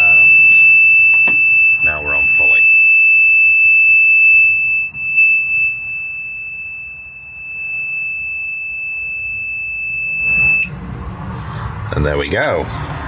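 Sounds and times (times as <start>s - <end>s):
high-pitched buzzer tone: 0.0s - 10.7s.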